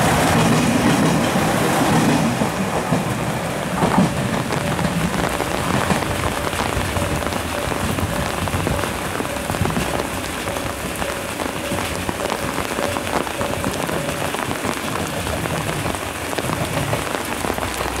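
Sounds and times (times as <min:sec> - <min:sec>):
diesel train rumble: 0:00.0 - 0:18.0
heavy rain falling: 0:00.0 - 0:18.0.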